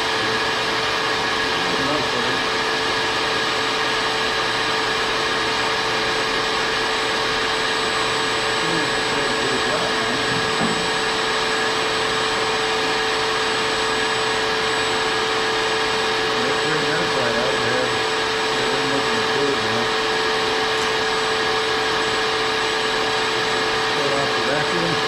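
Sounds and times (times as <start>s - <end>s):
shop vacuum running: 0.0s - 25.0s.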